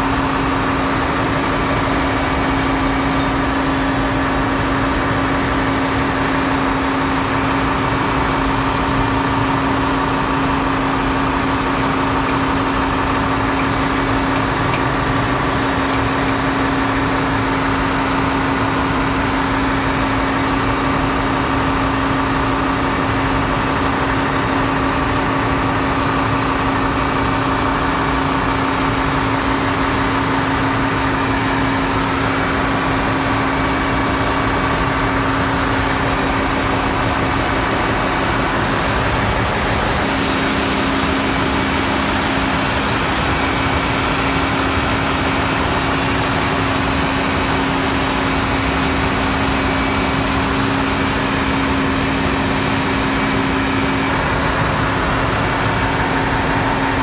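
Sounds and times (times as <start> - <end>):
engine room diesel machinery drone: 0.0 - 57.0.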